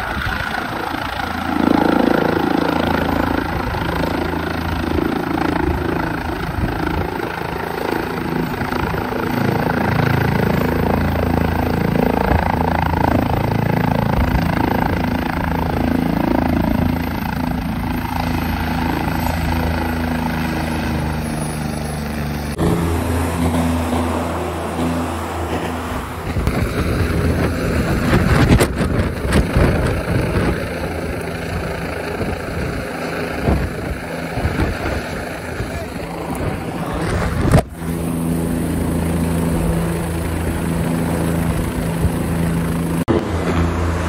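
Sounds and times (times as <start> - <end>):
helicopter rotor and engine: 0.0 - 44.0.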